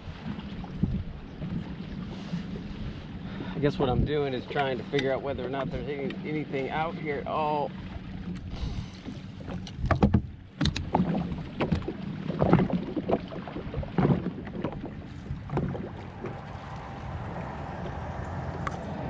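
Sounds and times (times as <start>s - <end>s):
water sloshing against hull: 0.0s - 19.0s.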